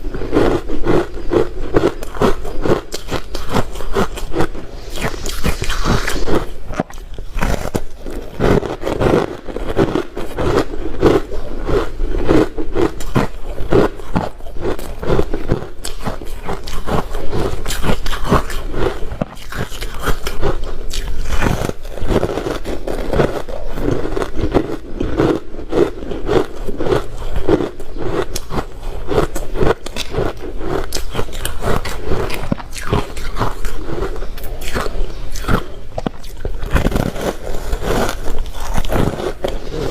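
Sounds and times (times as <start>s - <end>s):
person crunching ice: 0.0s - 5.8s, 6.8s - 39.9s.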